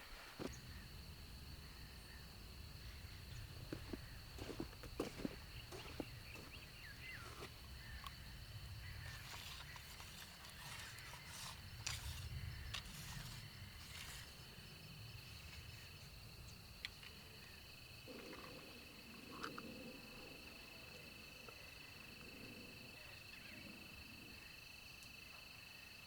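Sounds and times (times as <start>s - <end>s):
high insect trill: 0.4s - 26.0s.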